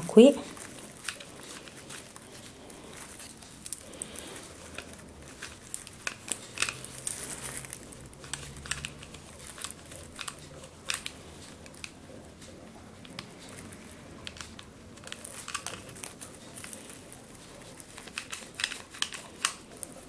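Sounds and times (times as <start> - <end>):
metallic ribbon crinkling: 0.0 - 20.0.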